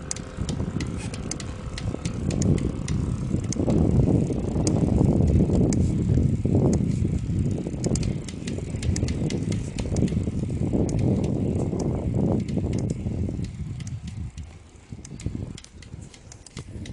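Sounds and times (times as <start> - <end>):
bike pedals clicking: 0.0 - 16.9.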